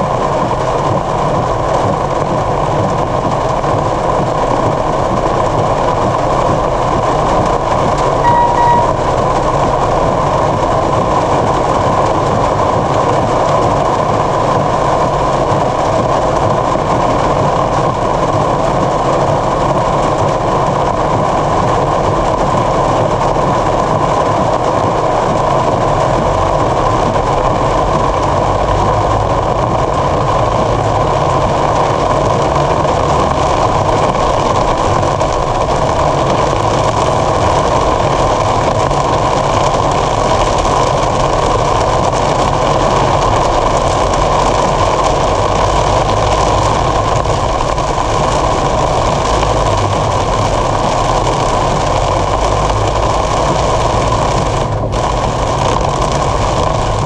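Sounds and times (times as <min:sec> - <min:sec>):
heavy rain drumming on car roof: 0:00.0 - 0:57.0
tyre noise on flooded road: 0:00.0 - 0:57.0.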